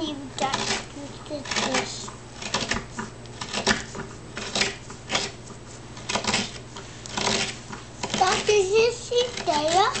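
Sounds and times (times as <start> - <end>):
carving tool scraping wood: 0.4 - 10.0.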